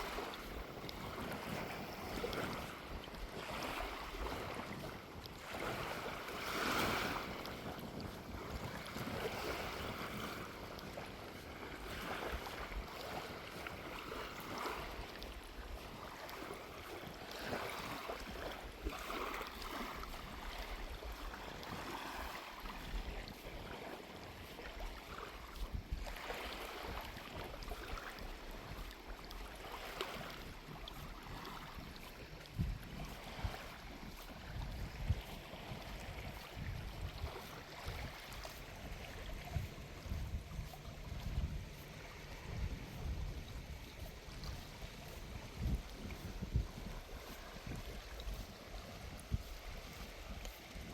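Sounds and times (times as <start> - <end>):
small waves washing on beach: 0.0 - 50.9
wind rumbling on microphone: 0.0 - 50.9.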